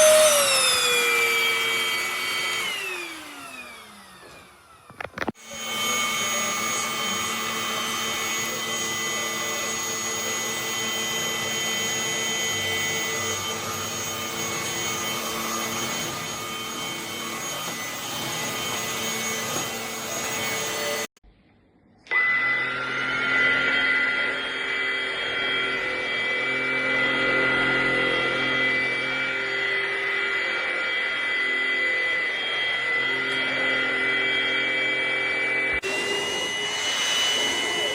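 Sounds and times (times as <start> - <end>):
steady motor sound: 0.0 - 21.1, 22.7 - 37.9
stick vacuum cleaner running: 0.0 - 21.2, 22.1 - 37.9.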